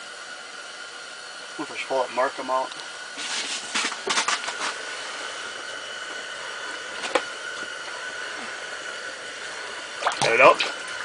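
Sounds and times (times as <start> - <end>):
mechanical hum with high whine: 0.0 - 11.0.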